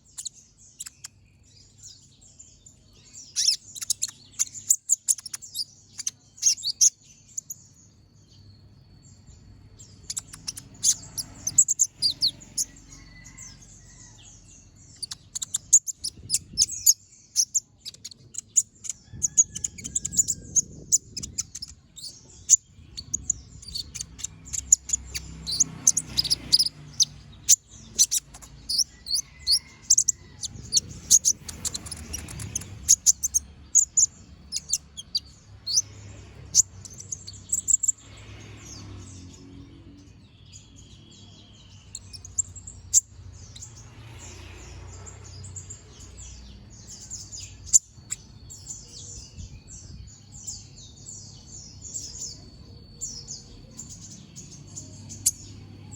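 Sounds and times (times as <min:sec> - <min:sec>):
sunbird chirping and trilling: 0:00.0 - 0:55.9.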